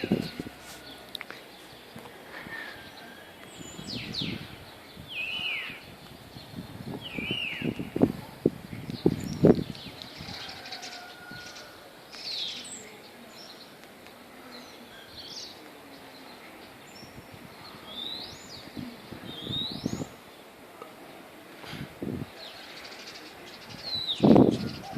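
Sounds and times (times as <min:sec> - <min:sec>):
birds chirping: 0:00.0 - 0:24.9
outdoor background noise: 0:00.0 - 0:24.9.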